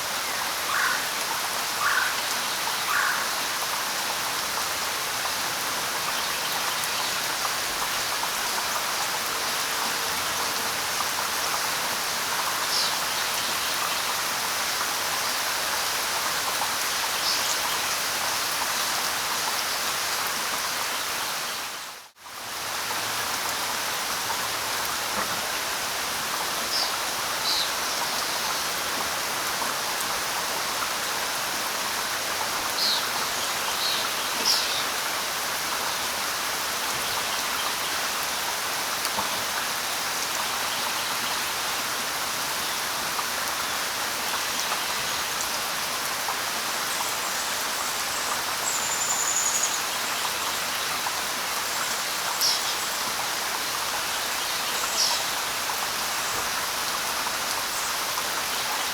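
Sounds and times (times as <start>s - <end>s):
rain pattering on leaves: 0.0s - 58.9s.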